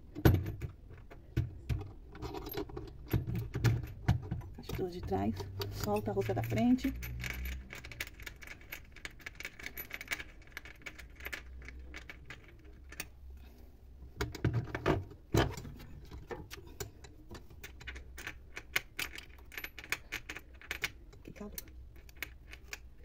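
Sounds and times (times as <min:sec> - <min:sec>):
small metallic clicks and rattles: 0:00.2 - 0:13.5, 0:14.2 - 0:23.0.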